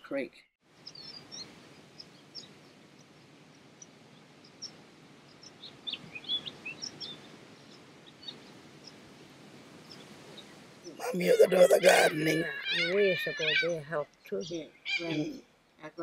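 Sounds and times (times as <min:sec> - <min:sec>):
low background noise: 0:00.7 - 0:16.0.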